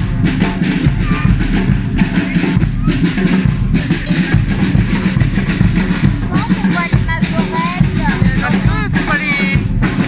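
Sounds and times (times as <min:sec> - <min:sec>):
marching drums playing: 0:00.0 - 0:10.0.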